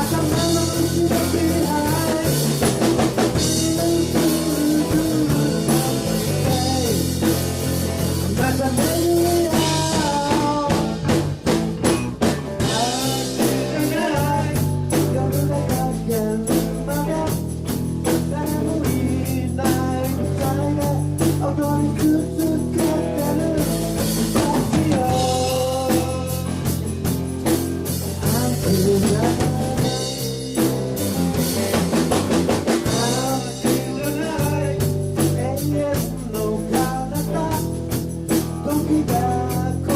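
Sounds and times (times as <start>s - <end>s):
person singing: 0.0s - 11.3s, 12.6s - 30.4s, 32.7s - 39.9s
drum kit beat: 0.0s - 39.9s
rock band playing live: 0.0s - 39.9s.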